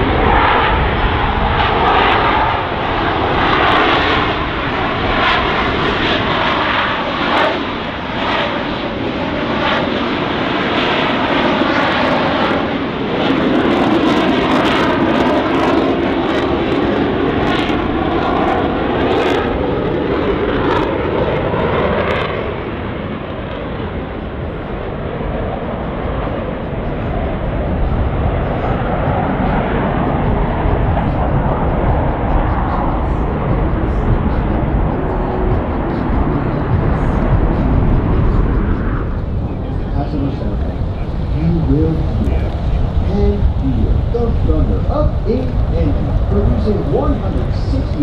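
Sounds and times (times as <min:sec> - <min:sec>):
aircraft engines passing overhead: 0:00.0 - 0:48.0.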